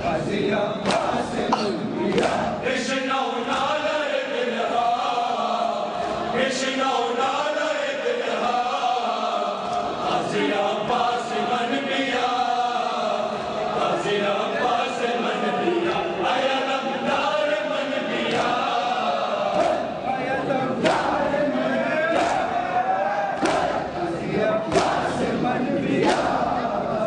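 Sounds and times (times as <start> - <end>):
crowd of men chanting: 0.0 - 27.0.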